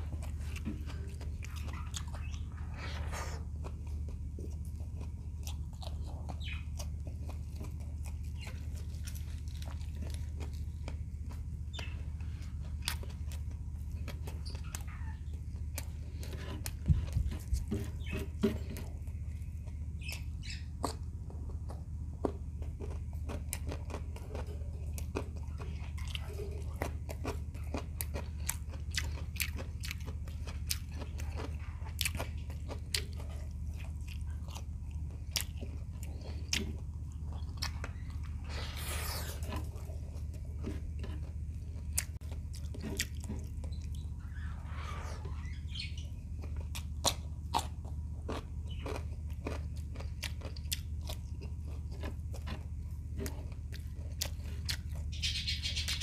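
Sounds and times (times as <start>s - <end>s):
chewing crisp fried food: 0.0s - 56.0s
steady low hum: 0.0s - 56.0s.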